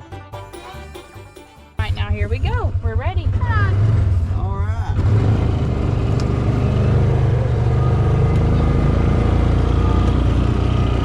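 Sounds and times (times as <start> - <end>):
vehicle engine humming: 1.8 - 11.0.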